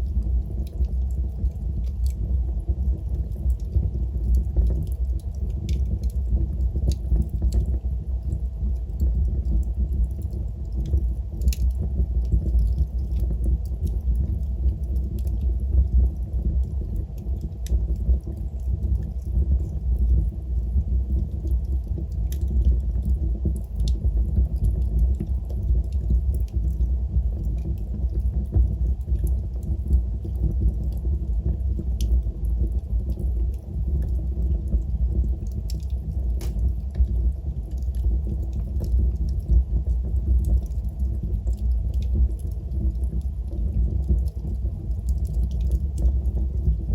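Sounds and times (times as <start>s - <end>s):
wood fire crackling: 0.0s - 46.8s
fire popping and snapping: 0.0s - 46.9s
low rumble of burning fire: 0.0s - 46.9s.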